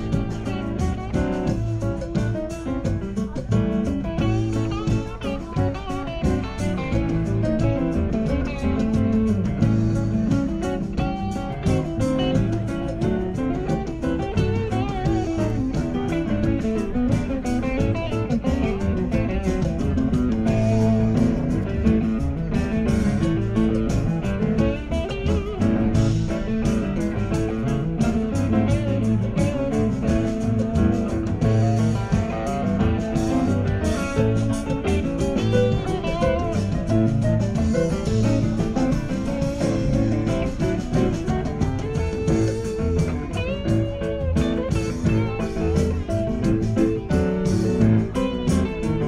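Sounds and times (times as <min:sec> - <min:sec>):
electric guitar bent notes: 0:00.0 - 0:49.0
live rock band playing: 0:00.0 - 0:49.0.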